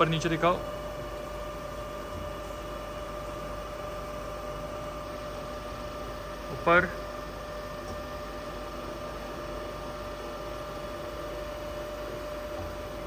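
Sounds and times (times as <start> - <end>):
grinder motor hum with whine: 0.0 - 13.0.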